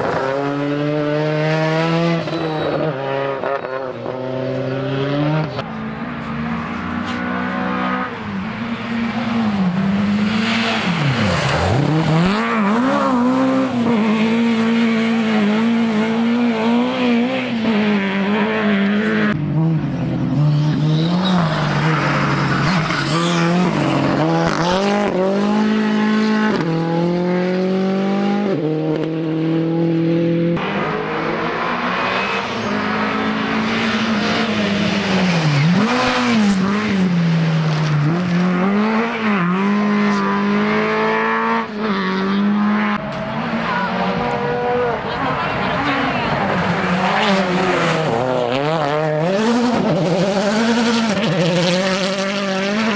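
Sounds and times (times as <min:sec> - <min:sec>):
rally car engines revving: 0:00.0 - 0:52.9.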